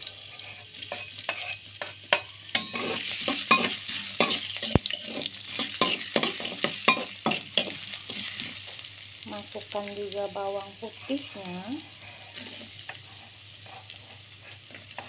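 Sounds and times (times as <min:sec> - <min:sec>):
spatula scraping a wok: 0:00.0 - 0:08.9, 0:10.8 - 0:15.0
ginger sizzling in oil: 0:00.0 - 0:15.0.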